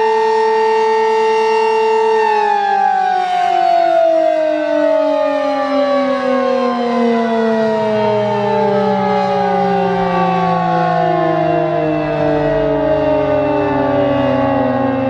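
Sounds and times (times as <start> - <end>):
two-tone warning siren winding down: 0.0 - 15.0.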